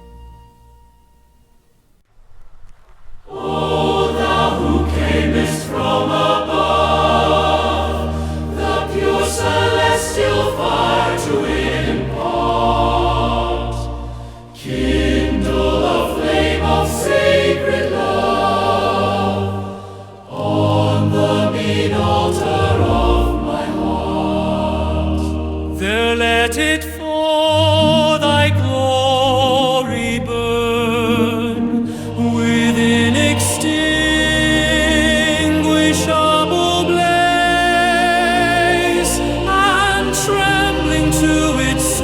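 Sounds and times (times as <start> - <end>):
choir singing a hymn: 3.3 - 26.6, 30.9 - 42.0.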